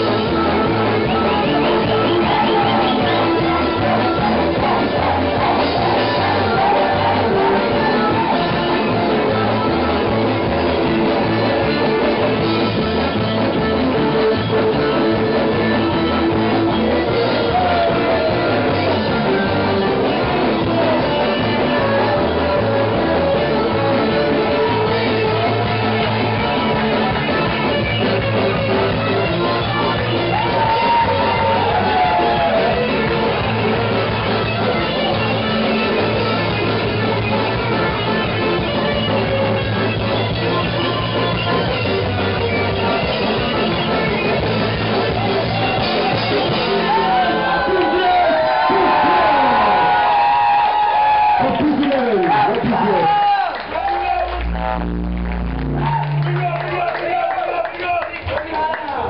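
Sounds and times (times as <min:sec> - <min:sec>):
live band playing rock music: 0:00.0 - 0:59.0.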